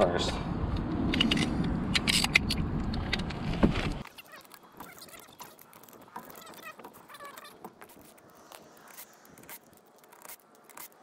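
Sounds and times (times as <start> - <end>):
socket wrench clicks and scrapes: 1.0 - 3.4, 4.0 - 11.0.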